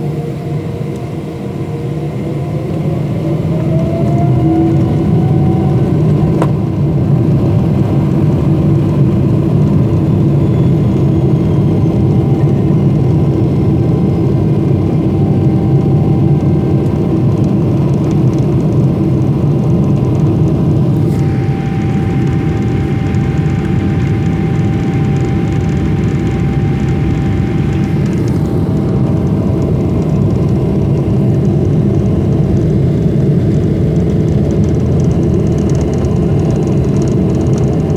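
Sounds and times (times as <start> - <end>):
jet engine rumble with whine: 0.0 - 37.9.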